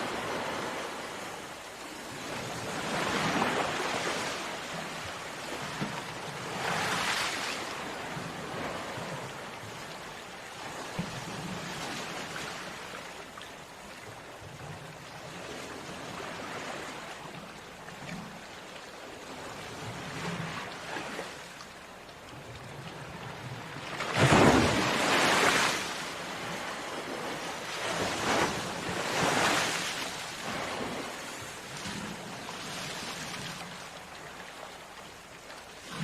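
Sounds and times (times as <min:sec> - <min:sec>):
waves breaking on beach: 0:00.0 - 0:13.4, 0:19.1 - 0:21.6, 0:22.9 - 0:36.0.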